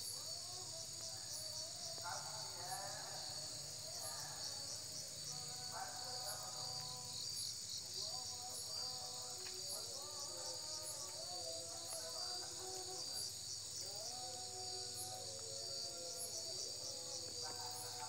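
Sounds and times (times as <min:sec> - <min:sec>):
crickets and insects chirring: 0:00.0 - 0:18.0
faint music with held notes: 0:00.0 - 0:18.0.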